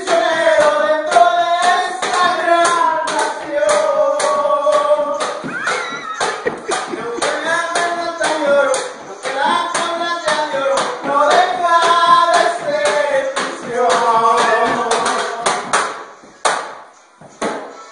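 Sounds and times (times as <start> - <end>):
person singing: 0.0 - 15.8
sharp knocking beat: 0.0 - 17.6.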